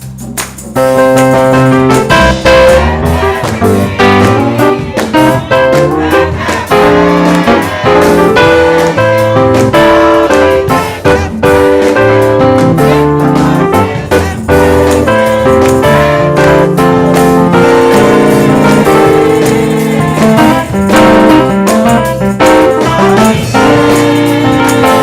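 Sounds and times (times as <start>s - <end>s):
bass line: 0.0s - 25.0s
piano chords and melody: 0.0s - 25.0s.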